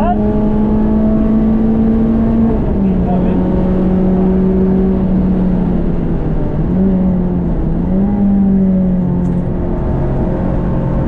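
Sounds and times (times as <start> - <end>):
car engine running hard: 0.0 - 11.0
road and wind noise: 0.0 - 11.0.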